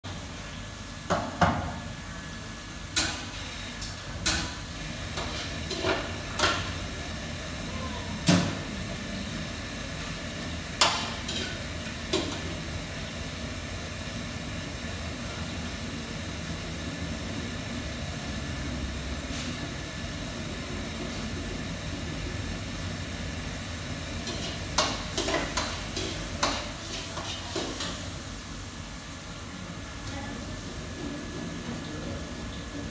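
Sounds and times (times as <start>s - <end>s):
kitchen hiss: 2.4s - 32.7s.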